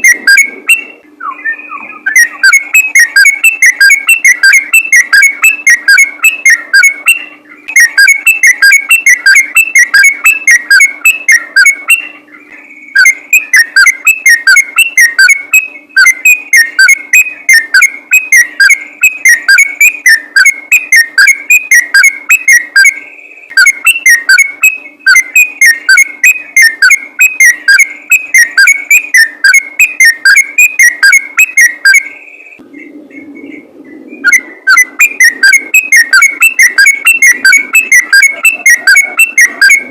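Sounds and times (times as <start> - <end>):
bird singing whistled notes: 0.0 - 39.9
faint steady hum: 0.0 - 39.9.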